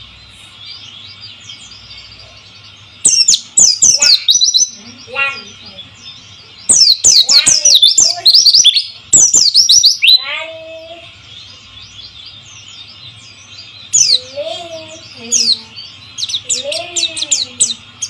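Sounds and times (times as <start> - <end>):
bird chirping song: 0.0 - 18.0.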